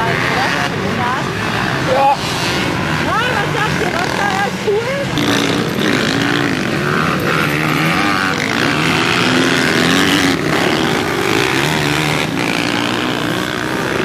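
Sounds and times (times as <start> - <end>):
motorcycle and quad engines revving: 0.0 - 14.0.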